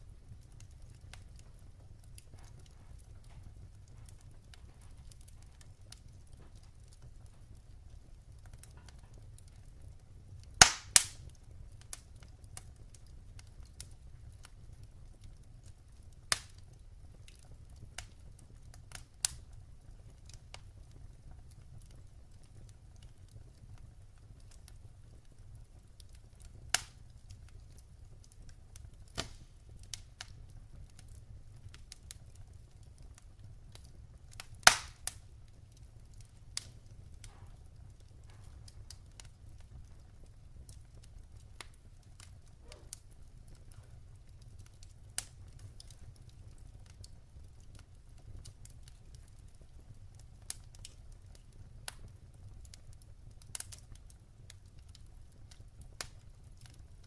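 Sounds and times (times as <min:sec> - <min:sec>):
firewood crackling and popping: 0:00.0 - 0:57.0
low rumble of flames: 0:00.0 - 0:57.0.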